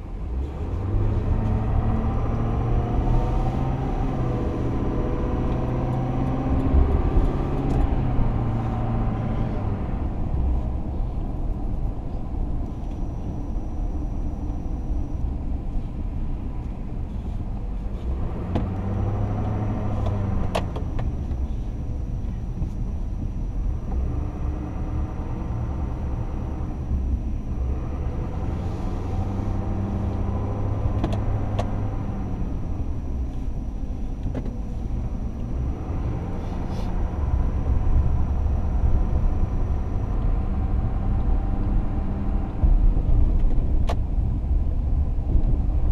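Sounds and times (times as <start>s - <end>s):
truck engine and tyre noise: 0.0s - 45.9s.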